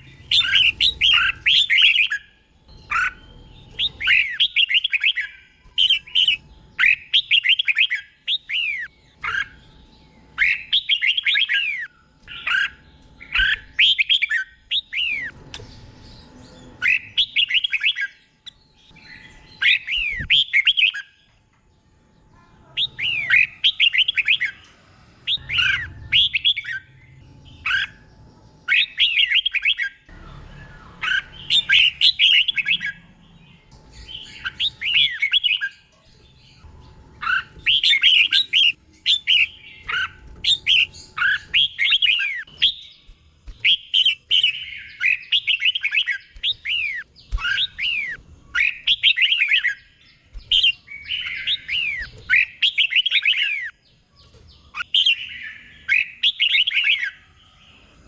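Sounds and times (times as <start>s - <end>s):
bird singing whistled notes: 0.0s - 21.2s, 22.8s - 35.9s, 37.2s - 58.0s.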